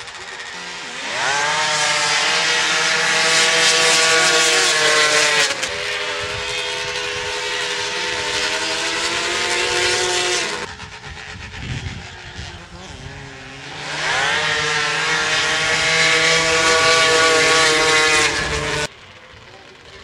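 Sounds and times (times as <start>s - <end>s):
quad engines at high revs: 0.0s - 20.0s.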